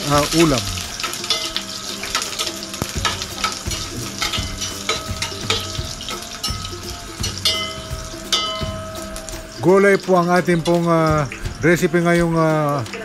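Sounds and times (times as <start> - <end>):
garlic and onion sizzling: 0.0 - 13.0.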